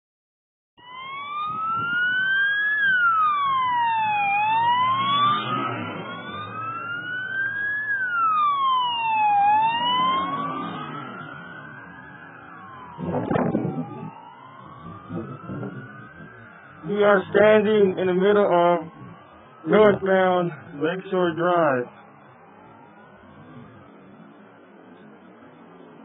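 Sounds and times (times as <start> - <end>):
emergency siren wailing: 0.8 - 26.0.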